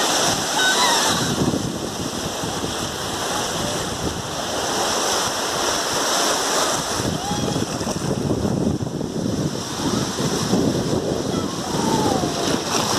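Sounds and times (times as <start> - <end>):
waves breaking on a beach: 0.0 - 12.9
wind buffeting microphone: 0.0 - 12.9.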